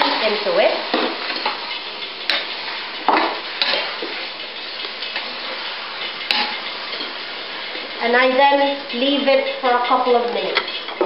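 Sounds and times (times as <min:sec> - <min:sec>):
chicken sizzling in a pan: 0:00.0 - 0:11.0
spatula scraping a pan: 0:00.2 - 0:11.0.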